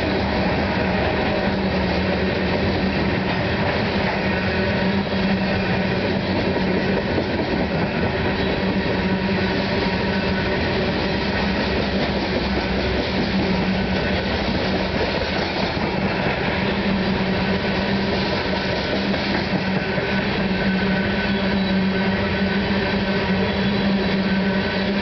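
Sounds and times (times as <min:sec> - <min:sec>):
steel wheels on rail: 0:00.0 - 0:25.0.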